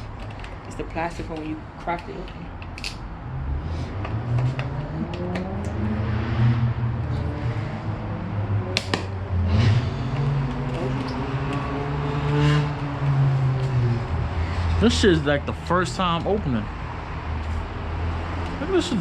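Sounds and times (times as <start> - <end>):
low engine hum: 3.1 - 19.0.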